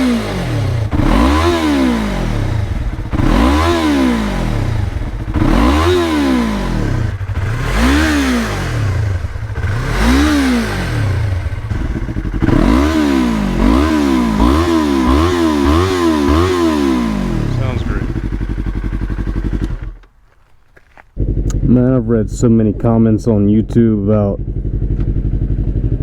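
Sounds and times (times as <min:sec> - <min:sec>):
motorcycle engine revving: 0:00.0 - 0:20.1, 0:20.9 - 0:26.0.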